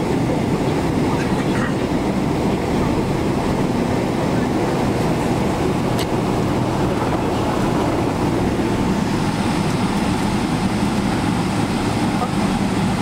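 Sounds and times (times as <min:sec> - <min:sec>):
airplane cabin noise while taxiing: 0:00.0 - 0:13.0
rumble of rolling airframe: 0:00.0 - 0:13.0.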